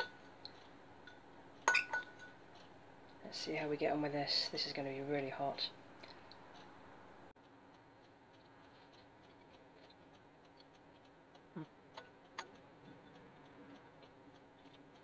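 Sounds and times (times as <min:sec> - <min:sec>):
soft ticks and clicks: 0:00.1 - 0:15.0.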